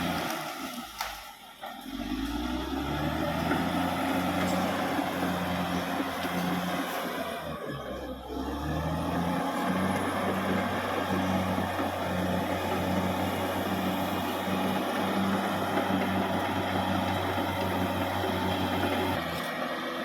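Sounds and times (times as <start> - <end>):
bulldozer diesel engine running: 0.0 - 20.0.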